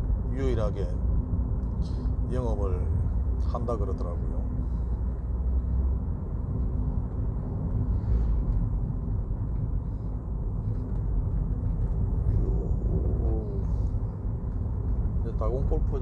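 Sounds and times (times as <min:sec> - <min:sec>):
car engine rumble: 0:00.0 - 0:16.0.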